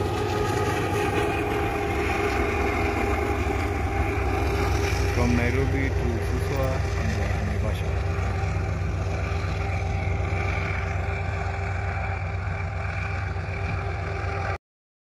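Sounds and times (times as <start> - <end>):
vehicle engine and road rumble: 0.0 - 14.6.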